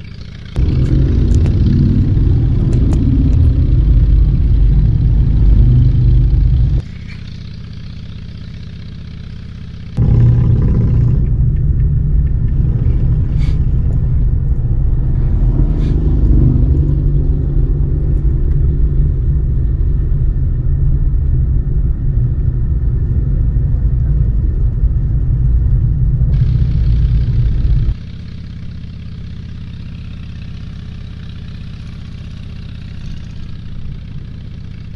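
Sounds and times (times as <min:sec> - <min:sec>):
motorcycles rumbling: 0:00.0 - 0:34.9.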